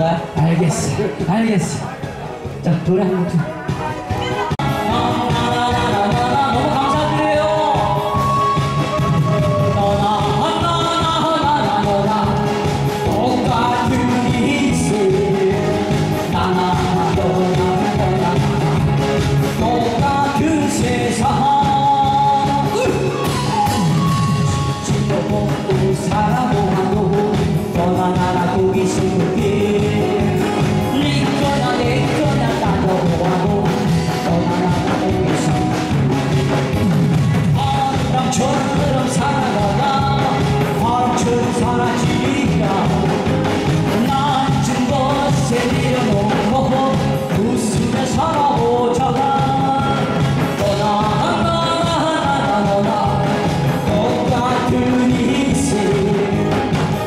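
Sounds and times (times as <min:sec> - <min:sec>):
instrumental accompaniment with beat: 0:00.0 - 0:57.0
person singing: 0:02.9 - 0:57.0.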